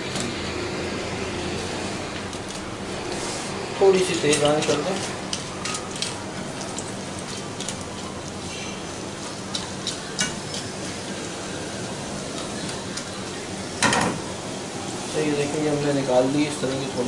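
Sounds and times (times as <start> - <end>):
dough deep-frying in oil: 0.0 - 17.0.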